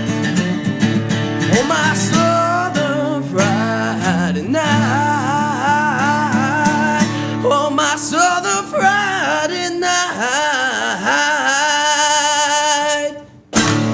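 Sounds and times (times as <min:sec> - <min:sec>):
country band with guitar: 0:00.0 - 0:13.9
person singing with vibrato: 0:01.5 - 0:13.9.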